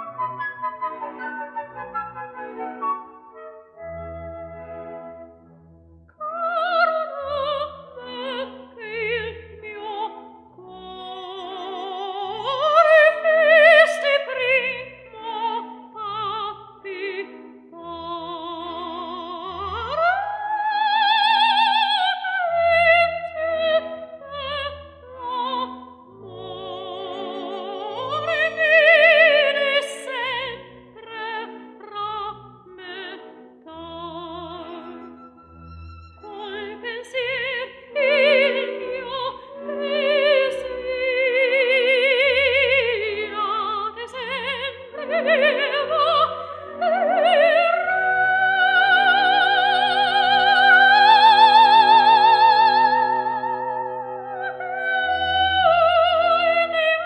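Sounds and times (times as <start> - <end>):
sustained musical accompaniment: 0.0 - 57.0
operatic singing with vibrato: 6.2 - 57.0.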